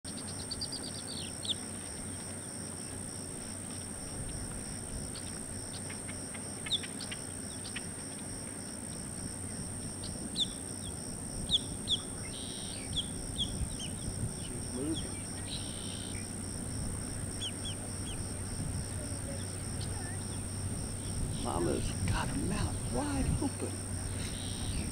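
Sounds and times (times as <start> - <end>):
high insect buzz: 0.1 - 24.9.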